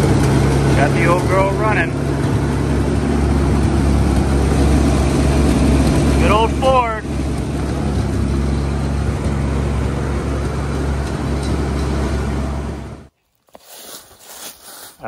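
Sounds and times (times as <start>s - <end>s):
gasoline engine idling: 0.0s - 13.1s.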